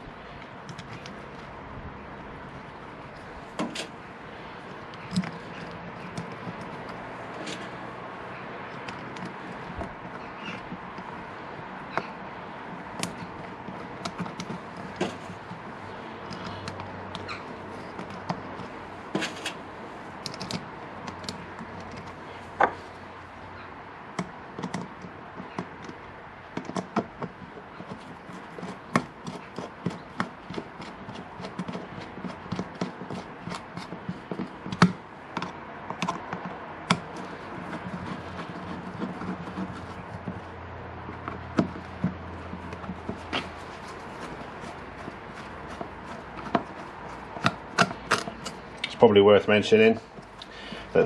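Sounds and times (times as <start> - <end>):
metal clicks and taps: 4.6 - 7.6, 8.6 - 19.6, 20.2 - 22.8, 24.0 - 49.0.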